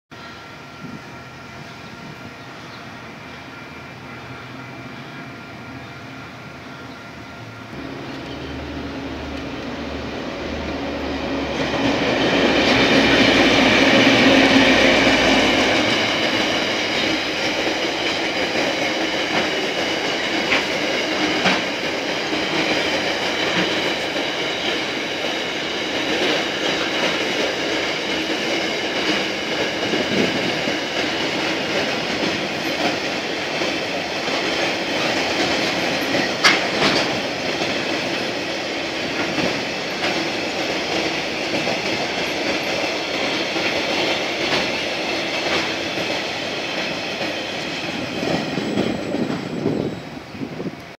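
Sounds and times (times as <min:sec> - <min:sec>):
diesel locomotive engine: 0:00.1 - 0:50.9
freight train wagons rumbling: 0:00.4 - 0:50.9.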